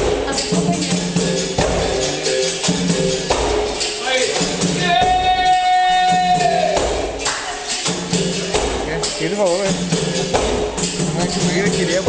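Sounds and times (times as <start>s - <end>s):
tambourine and percussion rhythm: 0.0s - 12.0s.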